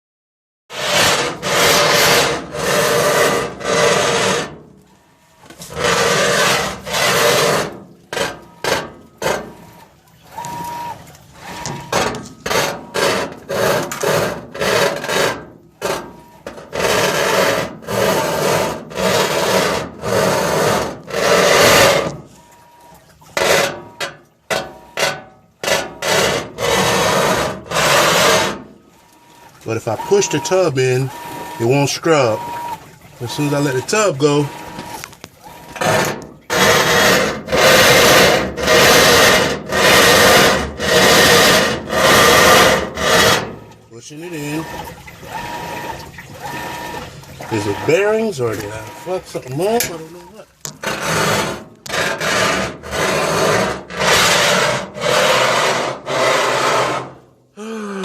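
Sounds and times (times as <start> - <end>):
washing machine tub scraping: 0.7 - 57.5.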